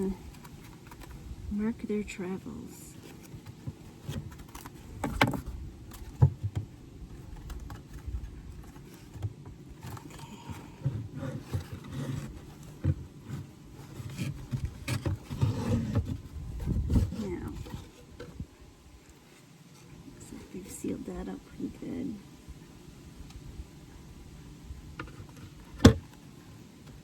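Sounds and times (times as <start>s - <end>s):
rustling and scraping: 0.0s - 27.0s.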